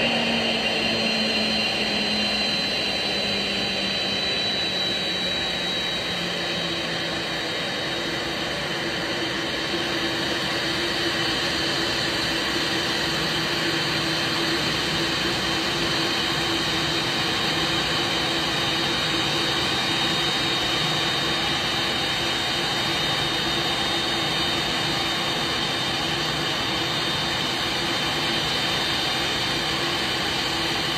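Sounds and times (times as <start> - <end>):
jet engines whining at low power: 0.0 - 30.9.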